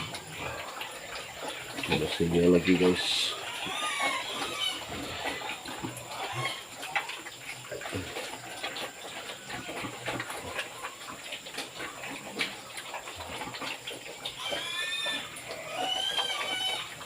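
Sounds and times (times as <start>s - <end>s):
pigs chewing and smacking: 0.0s - 17.0s
pigs grunting: 0.0s - 17.0s.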